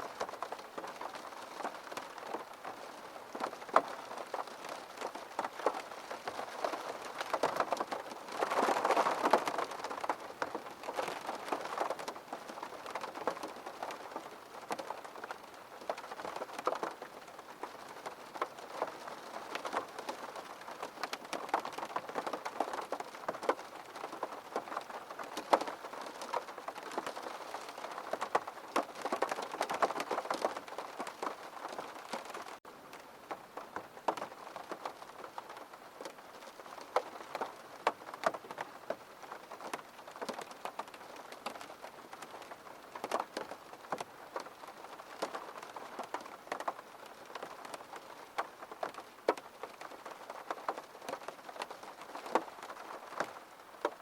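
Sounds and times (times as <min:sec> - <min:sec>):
raindrops ticking on glass: 0:00.1 - 0:54.0.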